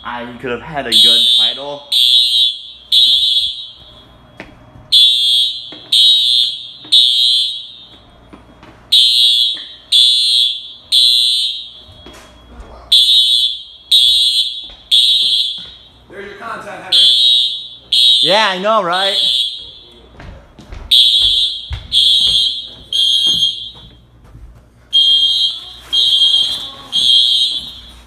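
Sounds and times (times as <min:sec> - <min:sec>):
fire alarm horn blasts: 0:00.7 - 0:04.3, 0:04.9 - 0:20.1, 0:20.9 - 0:24.1, 0:24.9 - 0:28.0.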